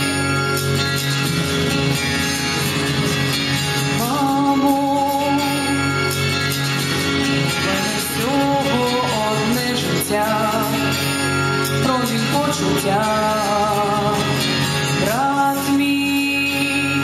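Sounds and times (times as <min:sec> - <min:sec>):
instrumental backing track: 0:00.0 - 0:17.0.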